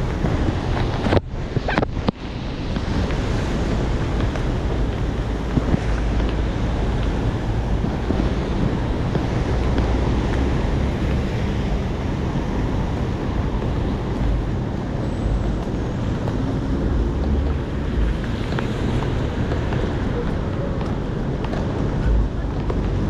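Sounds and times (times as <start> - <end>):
heavy rain rushing: 0.0 - 23.0
low rumble in gusts: 0.0 - 23.0
wind buffeting microphone: 0.0 - 23.0.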